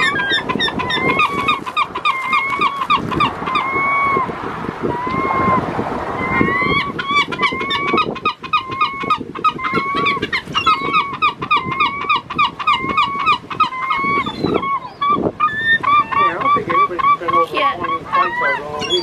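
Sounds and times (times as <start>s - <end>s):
flock of birds honking: 0.0s - 4.3s, 6.2s - 19.0s.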